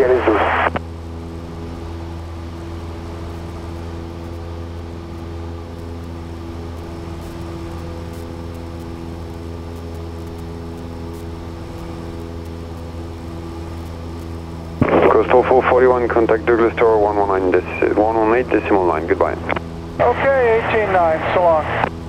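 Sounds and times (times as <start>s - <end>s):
airplane engine drone in cabin: 0.0s - 22.0s.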